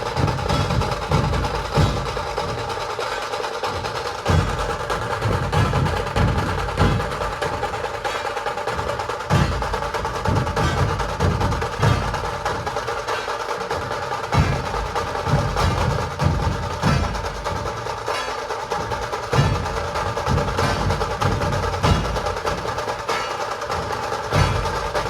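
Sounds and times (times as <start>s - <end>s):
deep barrel drum beats: 0.0s - 25.0s
snare drums rattling fast: 0.0s - 25.0s.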